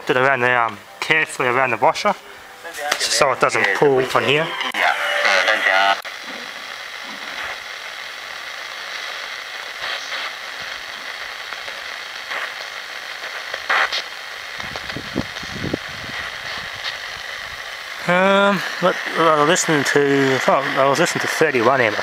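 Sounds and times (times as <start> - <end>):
radio blips and crackles: 0.0 - 22.0
radio static hiss: 0.0 - 22.0.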